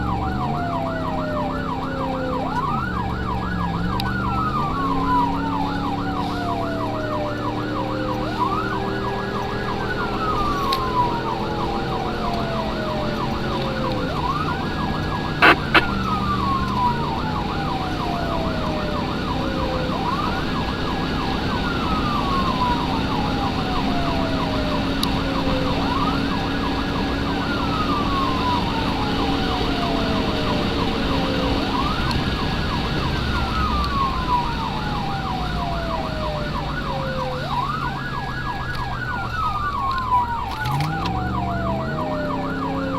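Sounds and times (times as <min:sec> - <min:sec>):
siren wail: 0:00.0 - 0:42.9
siren yelp: 0:00.0 - 0:42.9
vehicle engine hum: 0:00.0 - 0:42.9.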